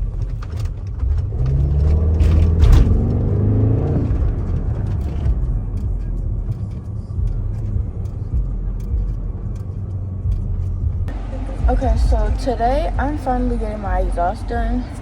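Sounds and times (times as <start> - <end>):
car engine rumble from inside: 0.0 - 15.0
road noise: 0.0 - 15.0.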